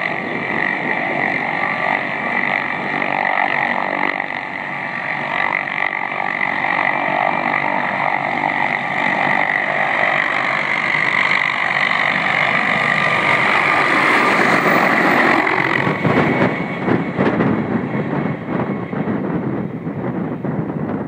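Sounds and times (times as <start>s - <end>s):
helicopter turbine whine and rotor: 0.0s - 21.0s
wind buffeting microphone: 0.0s - 21.0s.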